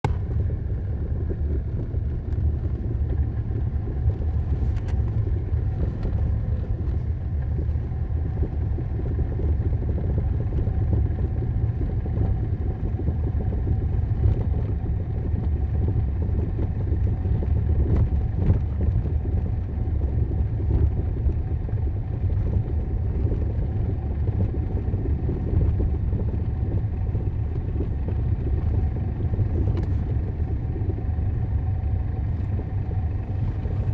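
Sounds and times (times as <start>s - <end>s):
road and tyre rumble: 0.0s - 33.9s.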